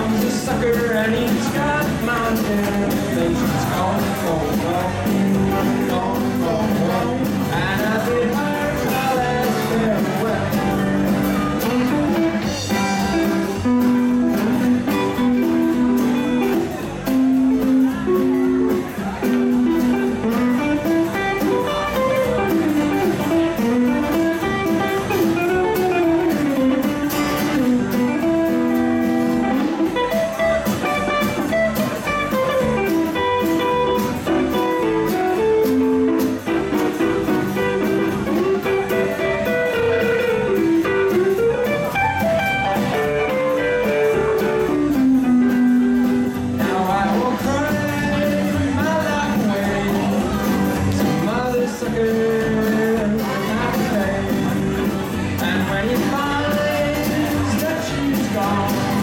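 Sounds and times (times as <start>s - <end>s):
lead electric guitar: 0.0s - 59.0s
rockabilly band playing: 0.0s - 59.0s.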